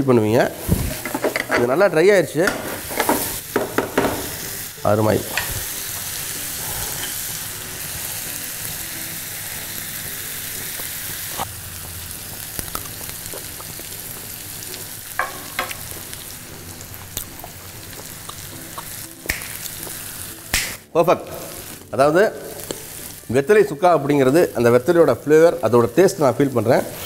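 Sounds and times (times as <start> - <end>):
meat sizzling in a pan: 2.5 - 27.0.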